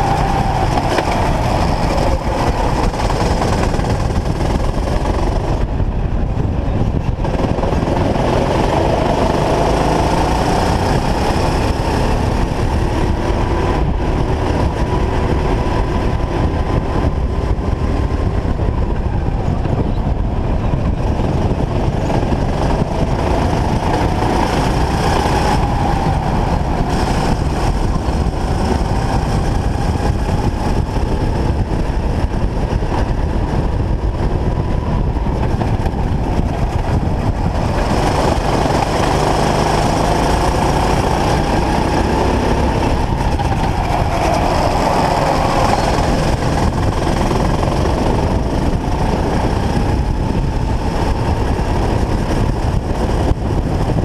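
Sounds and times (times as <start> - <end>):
go-kart engine racing: 0.0 - 54.0
wind rumble on microphone: 0.0 - 54.0.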